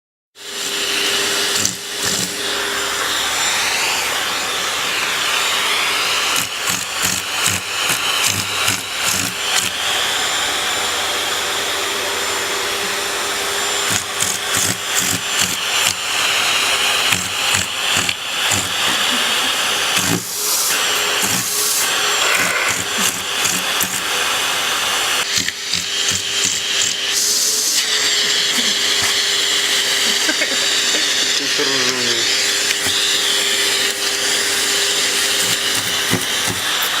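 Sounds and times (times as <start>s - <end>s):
vacuum cleaner running: 0.4s - 37.0s.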